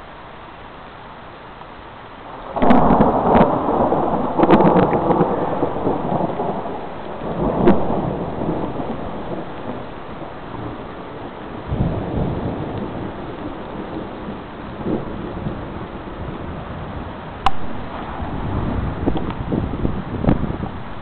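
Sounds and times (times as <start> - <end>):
steady rain: 0.0 - 21.0
thunder crack and rumble: 2.3 - 21.0.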